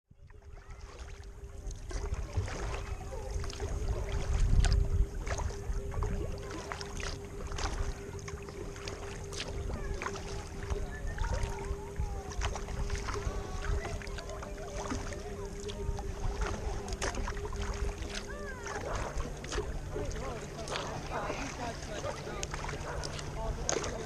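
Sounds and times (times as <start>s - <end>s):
low rumble: 0.2s - 24.0s
paddle strokes splashing: 0.2s - 24.0s.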